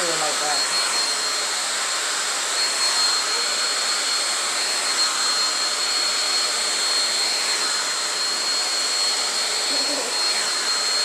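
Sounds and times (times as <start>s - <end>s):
blow dryer running: 0.0s - 11.0s.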